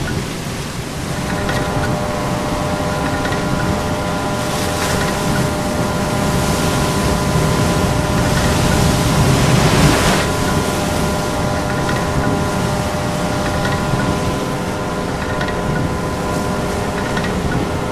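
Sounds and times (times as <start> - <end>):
steady hum of held tones: 0.0 - 17.9
surf washing on rocky shore: 0.0 - 17.9.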